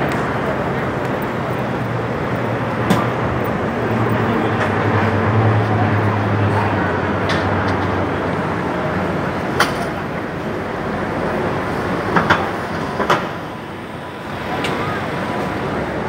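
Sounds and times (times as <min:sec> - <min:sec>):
bus passing: 0:00.0 - 0:16.0
street traffic: 0:00.0 - 0:16.0.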